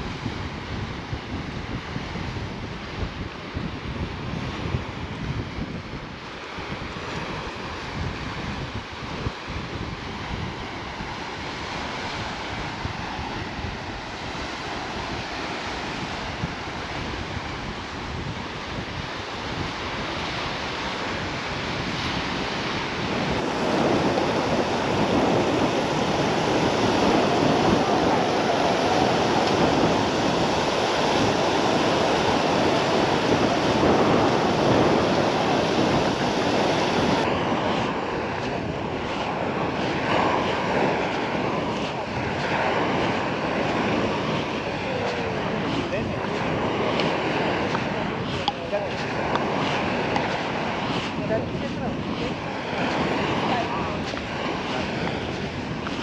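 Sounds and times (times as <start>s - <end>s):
sea waves washing onto beach: 0.0s - 56.0s
wind buffeting microphone: 0.0s - 56.0s.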